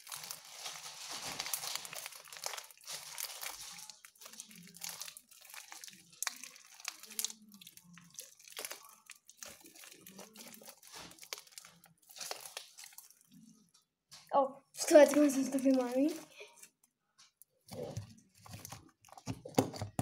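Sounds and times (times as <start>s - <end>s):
slime crackling and popping: 0.0s - 16.8s.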